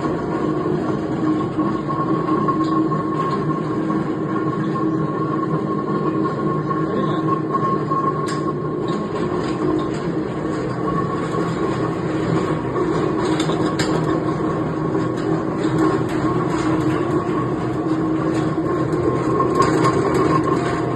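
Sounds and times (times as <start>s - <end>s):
wet grinder rumbling: 0.0s - 20.9s.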